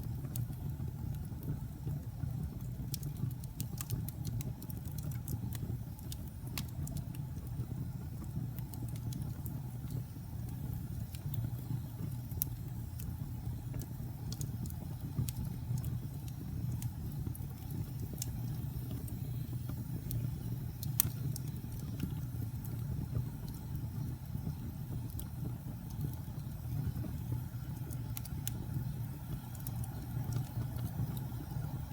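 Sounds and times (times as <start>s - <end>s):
fire flames rumbling: 0.0s - 31.9s
logs crackling and popping: 0.0s - 31.9s.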